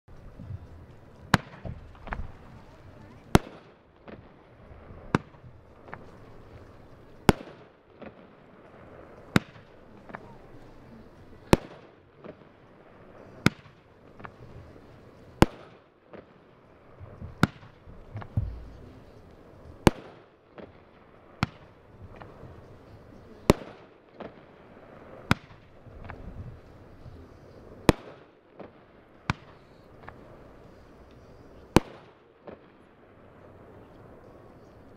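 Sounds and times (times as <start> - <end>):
fireworks pops and crackle: 0.1 - 32.9
fireworks bangs: 0.2 - 34.9.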